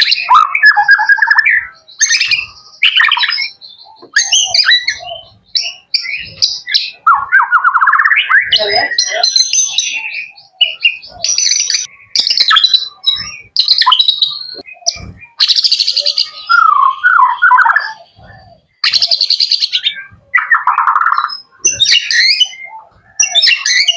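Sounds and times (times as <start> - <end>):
songbird singing trills and whistles: 0.0 - 23.9.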